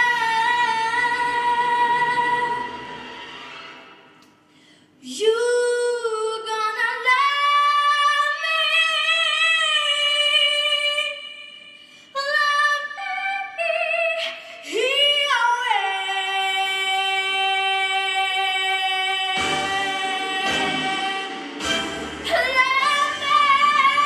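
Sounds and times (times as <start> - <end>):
girl singing into a microphone: 0.0 - 2.7, 5.0 - 21.3, 22.3 - 24.0.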